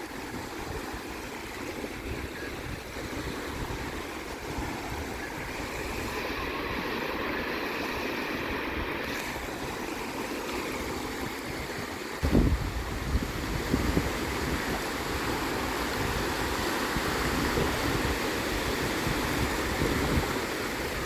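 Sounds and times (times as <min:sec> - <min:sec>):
sea waves washing in: 0:00.0 - 0:21.0
wind on microphone: 0:00.0 - 0:21.0.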